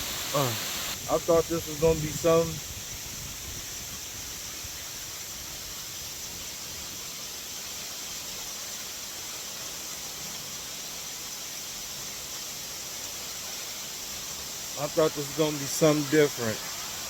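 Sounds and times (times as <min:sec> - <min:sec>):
water rushing over rocks: 0:00.0 - 0:02.9, 0:04.2 - 0:17.0.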